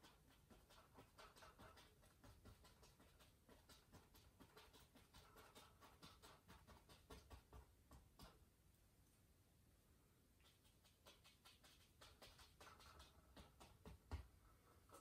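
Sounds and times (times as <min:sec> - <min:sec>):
small brush dabbing on canvas: 0:00.0 - 0:08.7, 0:10.3 - 0:15.0.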